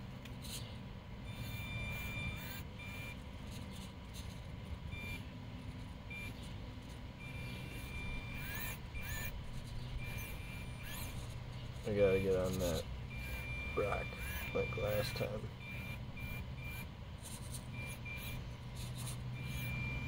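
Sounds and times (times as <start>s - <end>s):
rc car motor whining: 0.0s - 20.0s.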